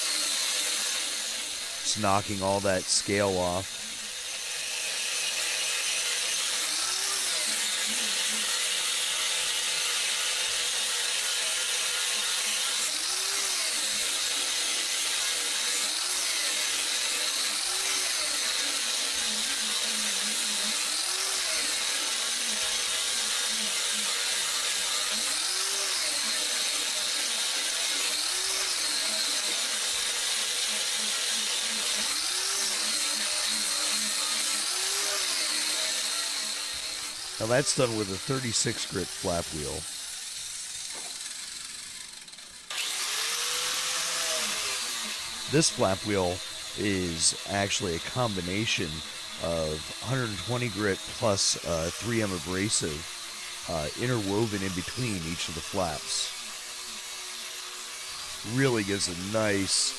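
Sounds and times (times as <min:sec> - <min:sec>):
grinder grinding steel: 0:00.0 - 0:59.9.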